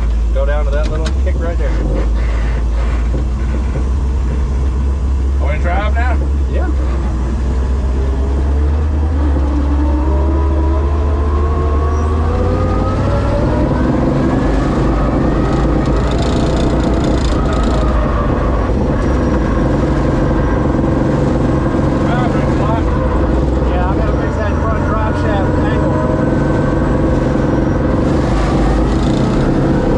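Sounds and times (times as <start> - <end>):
truck engine from inside cab: 0.0 - 29.9.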